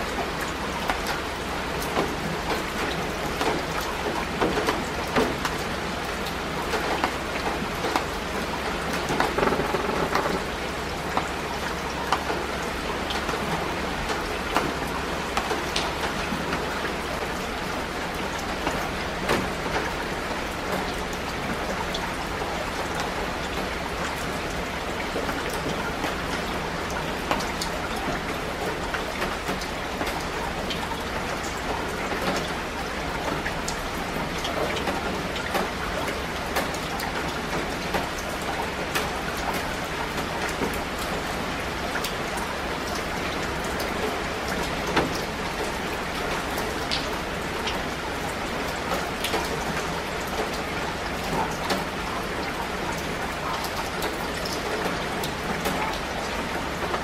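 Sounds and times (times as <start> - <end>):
raindrops ticking: 0.0 - 57.0
steady rain: 0.0 - 57.0.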